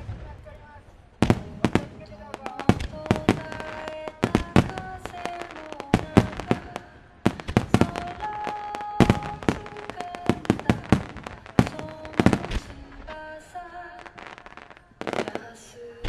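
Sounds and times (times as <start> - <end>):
fireworks bursting: 0.0 - 16.0
heavy fireworks booms: 0.0 - 16.0.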